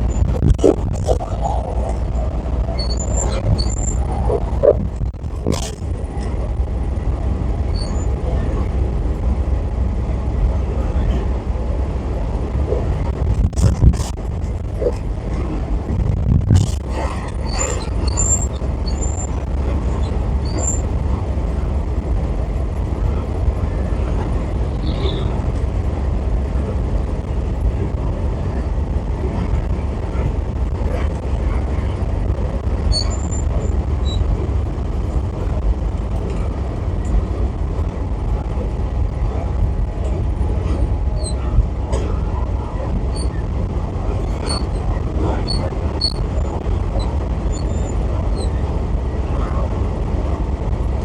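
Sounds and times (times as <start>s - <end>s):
road and engine rumble: 0.0s - 51.0s.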